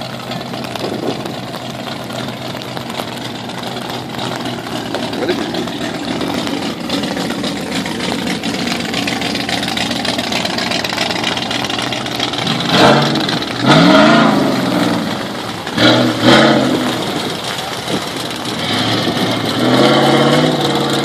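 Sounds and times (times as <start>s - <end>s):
pickup engine idling and revving: 0.0s - 21.0s.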